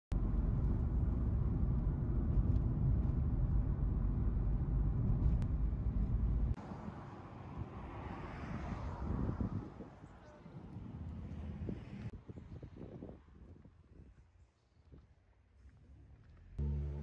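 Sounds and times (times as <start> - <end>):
car road and engine rumble: 0.1 - 12.2, 15.4 - 17.0
quiet outdoor ambience: 0.1 - 17.0.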